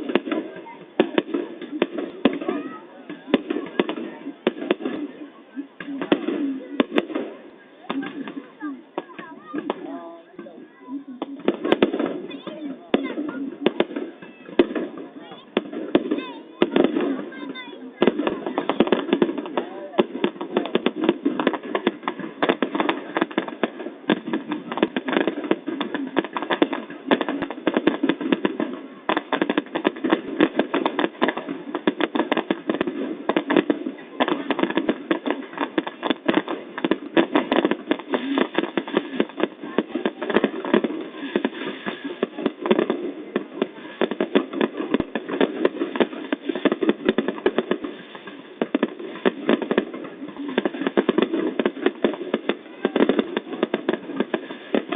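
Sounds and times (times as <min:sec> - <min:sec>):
fireworks popping and crackling: 0:00.0 - 0:54.9.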